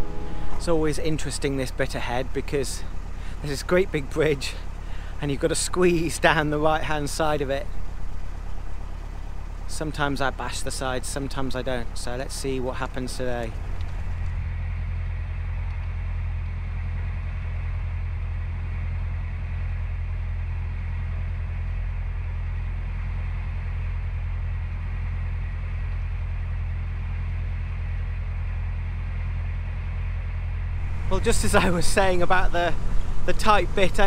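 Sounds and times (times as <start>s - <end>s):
boat diesel engine humming: 0.0s - 34.0s.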